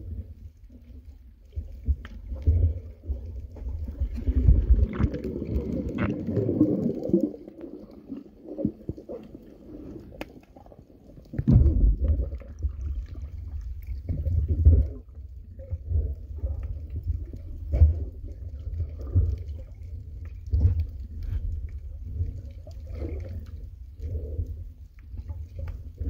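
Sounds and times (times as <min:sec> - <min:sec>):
muffled underwater gurgling: 0:00.0 - 0:26.0.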